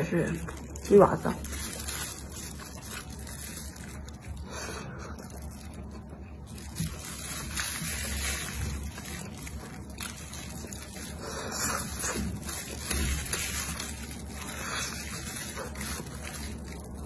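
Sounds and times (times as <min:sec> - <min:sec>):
wet chewing: 0:00.3 - 0:17.0.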